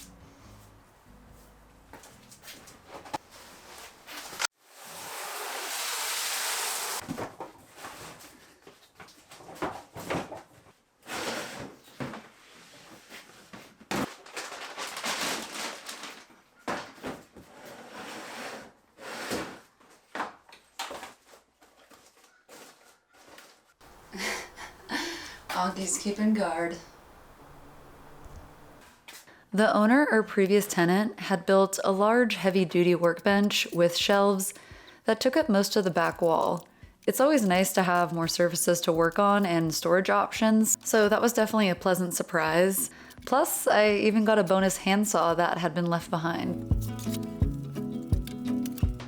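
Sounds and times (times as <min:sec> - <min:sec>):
household items being handled: 0:01.4 - 0:06.1, 0:07.0 - 0:29.1, 0:29.7 - 0:49.0.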